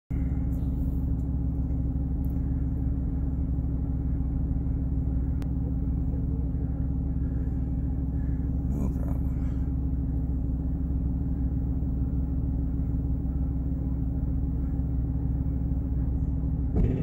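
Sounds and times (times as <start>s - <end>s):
vehicle engine idling: 0.1s - 17.0s.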